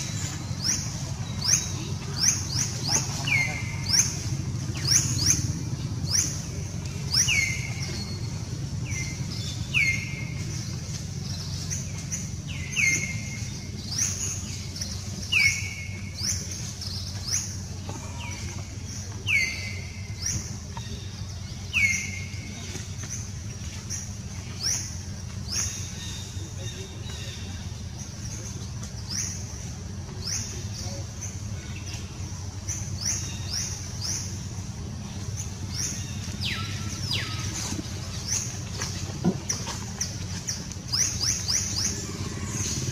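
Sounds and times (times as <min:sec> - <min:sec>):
steady low rumble: 0:00.0 - 0:42.9.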